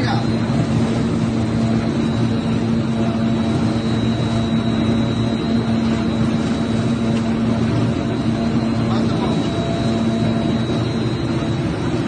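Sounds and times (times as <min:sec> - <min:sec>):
factory machinery drone: 0:00.0 - 0:12.0
low hum: 0:00.0 - 0:12.0
thin high whine: 0:00.0 - 0:12.0.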